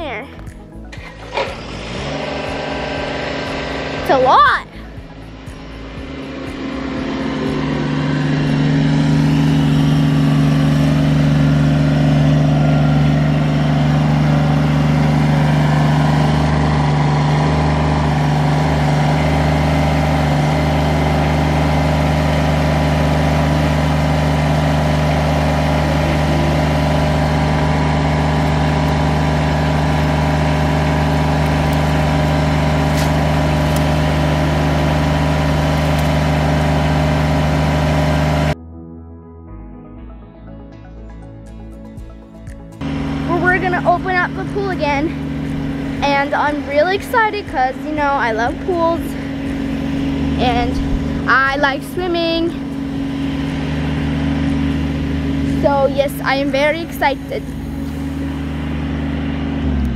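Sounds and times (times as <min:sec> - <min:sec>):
tractor diesel engine running: 0:00.0 - 0:38.6, 0:40.9 - 0:59.9.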